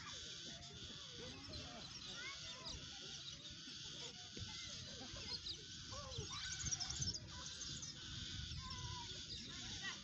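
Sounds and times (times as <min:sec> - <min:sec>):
birds squawking and chirping: 0:00.0 - 0:10.0
high bird twittering: 0:00.0 - 0:10.0.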